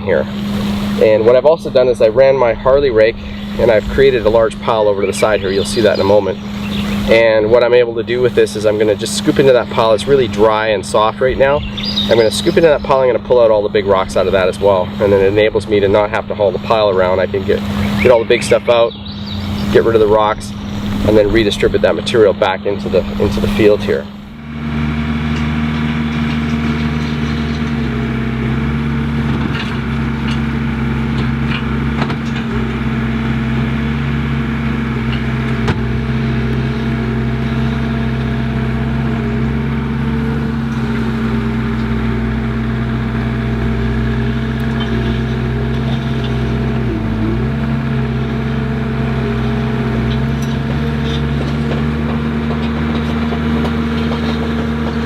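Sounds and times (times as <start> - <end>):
skid steer engine running: 0.0 - 55.0.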